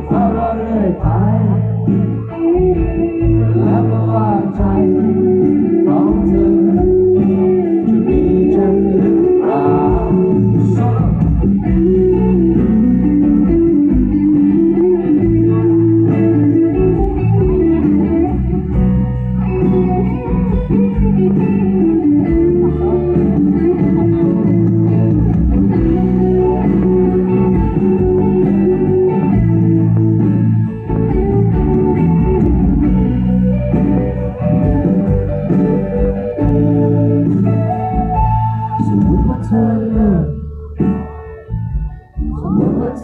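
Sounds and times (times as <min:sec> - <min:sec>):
electric guitar melody: 0:00.0 - 0:43.0
live band playing: 0:00.0 - 0:43.0.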